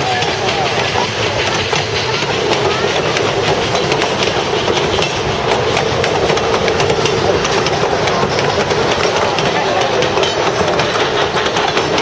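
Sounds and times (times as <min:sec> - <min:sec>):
train rolling past: 0:00.0 - 0:12.0.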